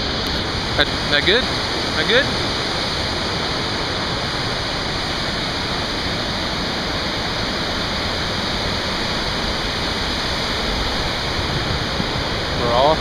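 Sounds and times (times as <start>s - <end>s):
waterfall rushing down rock: 0.0s - 13.0s.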